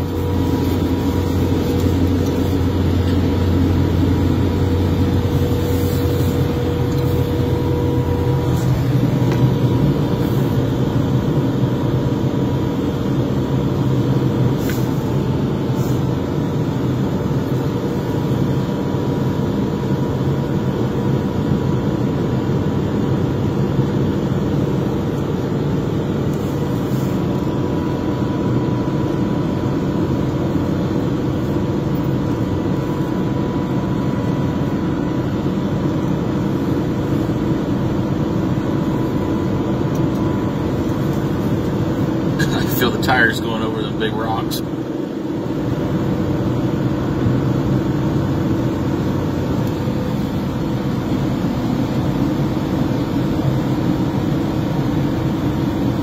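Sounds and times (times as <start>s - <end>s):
street sweeper engine drone: 0.0s - 56.0s
thin steady whine: 0.0s - 56.0s.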